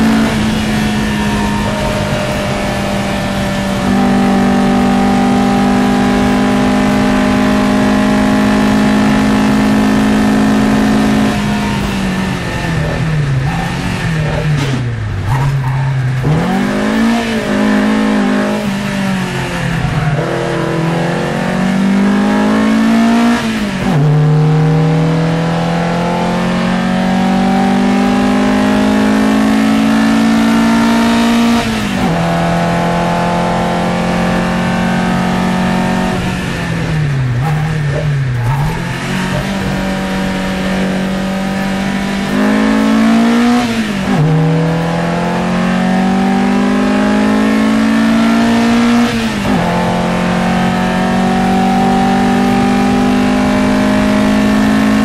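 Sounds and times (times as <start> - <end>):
racing car engine revving: 0.0 - 55.0.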